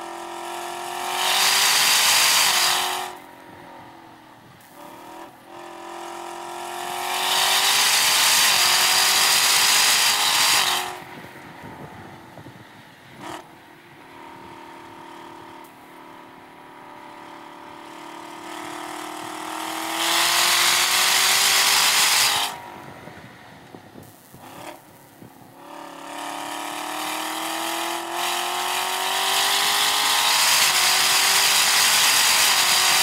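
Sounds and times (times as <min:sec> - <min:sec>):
car engine at full throttle: 0:00.0 - 0:33.0.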